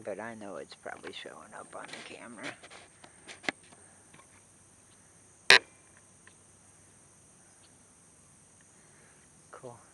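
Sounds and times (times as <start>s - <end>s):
high insect buzz: 0.0s - 9.9s.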